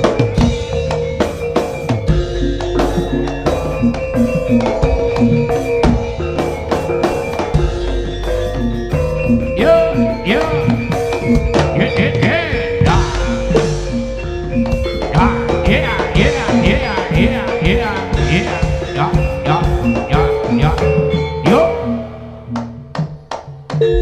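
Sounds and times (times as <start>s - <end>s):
tuned percussion: 0.0s - 21.7s, 22.5s - 24.0s
drums beating fast rhythm: 0.0s - 24.0s
wavering pitch-bending melody: 0.0s - 24.0s.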